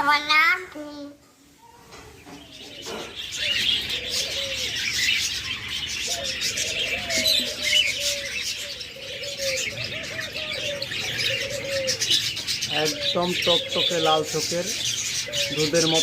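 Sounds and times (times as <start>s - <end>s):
small birds chirping: 0.0s - 16.0s
doves cooing: 1.6s - 16.0s.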